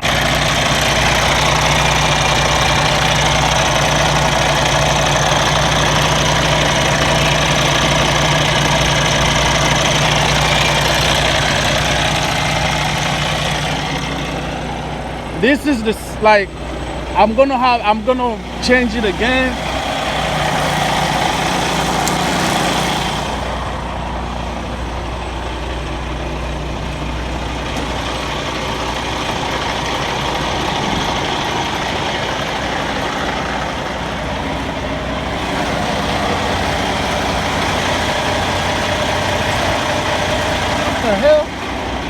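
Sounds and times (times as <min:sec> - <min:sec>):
diesel truck engine idling: 0:00.0 - 0:42.0.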